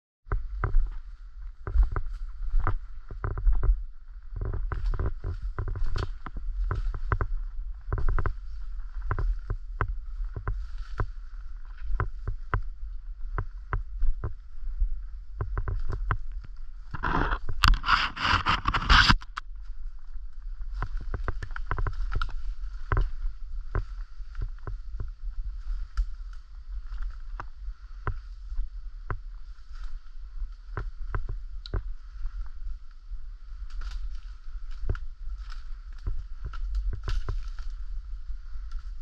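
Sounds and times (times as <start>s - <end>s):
steady low rumble: 0.2s - 39.0s
footsteps crackling twigs: 0.3s - 39.0s
brush rustling and scraping: 0.4s - 39.0s.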